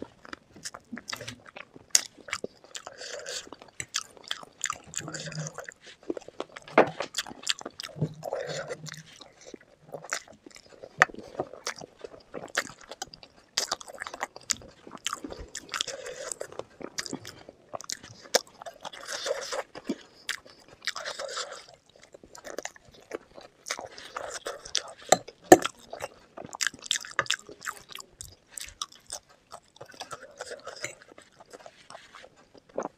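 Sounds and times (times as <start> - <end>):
crunching and chewing food: 0.0 - 32.9.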